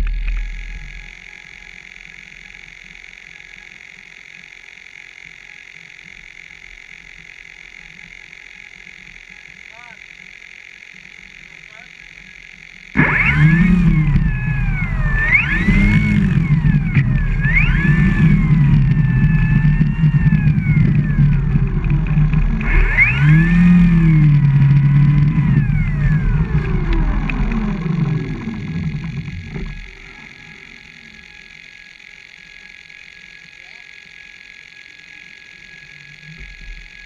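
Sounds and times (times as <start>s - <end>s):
propeller motor running: 0.0s - 37.0s.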